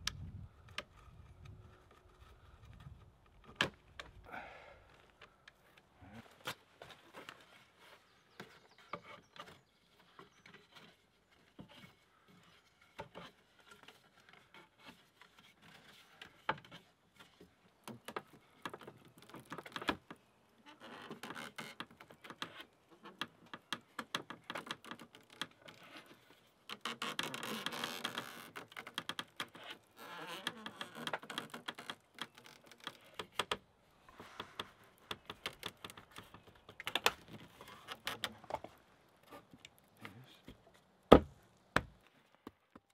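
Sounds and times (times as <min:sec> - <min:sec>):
hands handling rope and log: 0:00.0 - 0:42.9.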